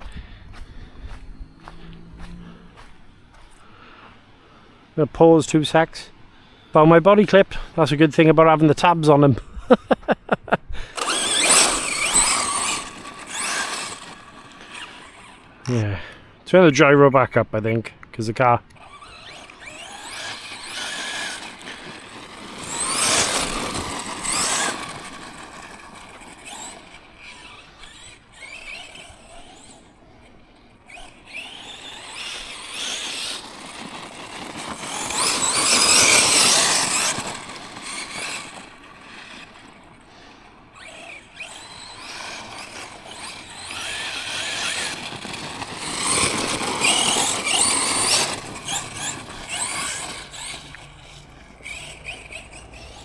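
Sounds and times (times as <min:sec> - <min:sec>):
tyre and ground noise: 0:00.0 - 0:04.4, 0:08.9 - 0:16.3, 0:17.8 - 0:53.0
rc truck motor whining: 0:00.0 - 0:53.0.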